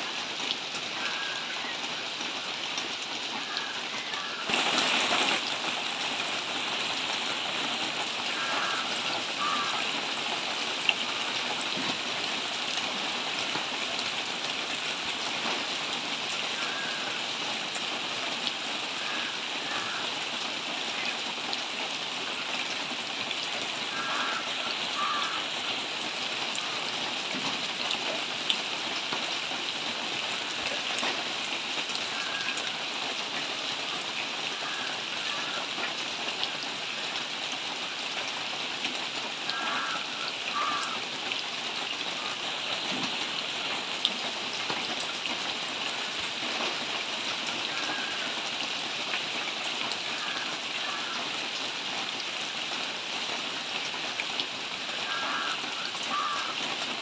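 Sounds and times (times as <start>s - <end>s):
rain falling on foliage: 0.0s - 57.0s
sharp rain taps: 1.9s - 57.0s.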